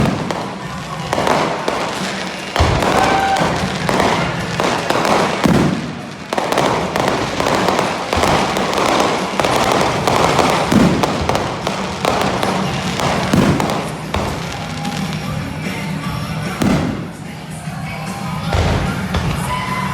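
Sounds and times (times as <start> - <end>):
heavy firework boom: 0.0 - 15.5, 16.1 - 17.3
fireworks bursts and crackles: 0.0 - 19.9.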